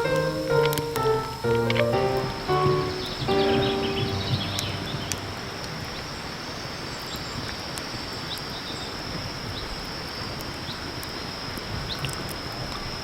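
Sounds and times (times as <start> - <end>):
low outdoor hiss: 0.0 - 13.0.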